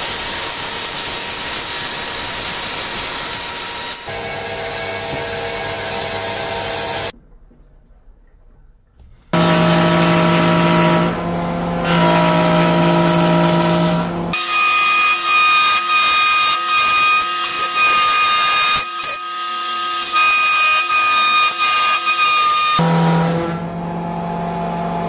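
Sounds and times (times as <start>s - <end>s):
woodworking power tool running: 0.0s - 7.1s, 9.4s - 25.0s.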